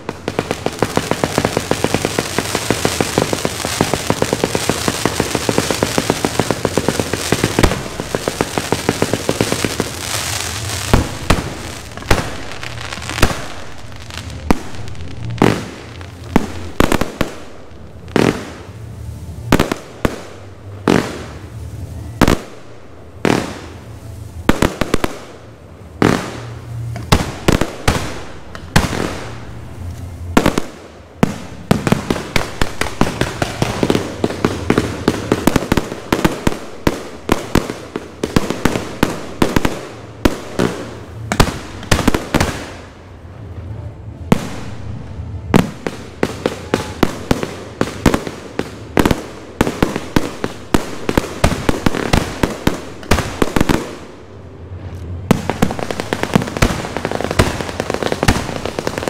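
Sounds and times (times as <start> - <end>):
fireworks bursting with sharp bangs: 0.0 - 59.0.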